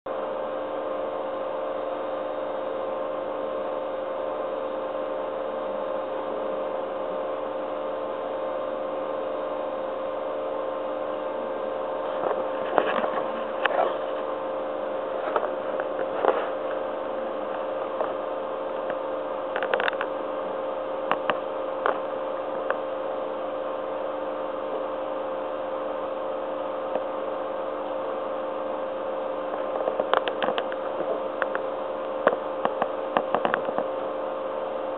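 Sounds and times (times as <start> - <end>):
aquarium equipment humming: 0.1 - 34.9.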